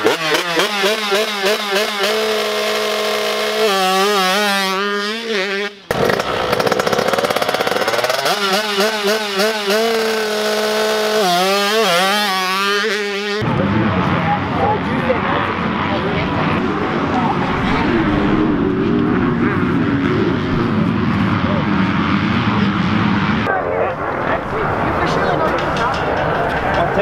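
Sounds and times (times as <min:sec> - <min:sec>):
motocross bike engine revving: 0:00.0 - 0:23.5.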